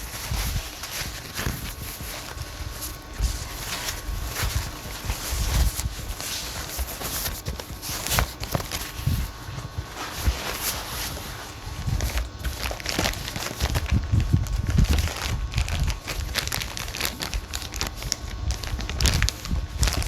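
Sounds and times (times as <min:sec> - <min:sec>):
packing material rustling: 0:00.0 - 0:20.0.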